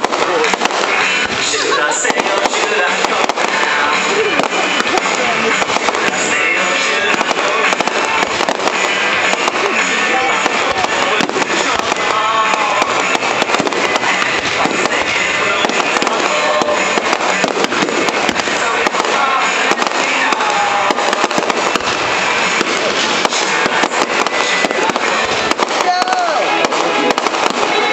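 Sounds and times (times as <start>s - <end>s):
fireworks bursting and crackling: 0.0s - 27.9s
loud music: 0.0s - 27.9s.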